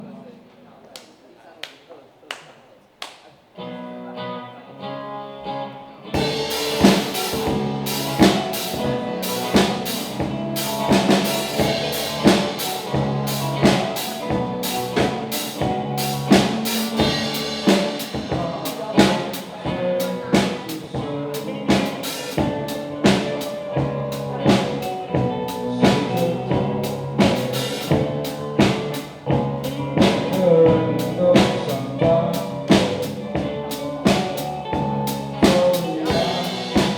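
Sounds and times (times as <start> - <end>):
rock band playing: 3.6 - 36.9
drum kit beat: 6.2 - 36.9.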